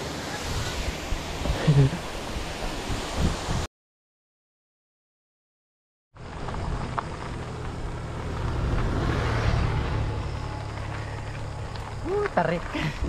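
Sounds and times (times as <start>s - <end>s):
low road noise: 0.0s - 3.7s, 6.2s - 13.0s.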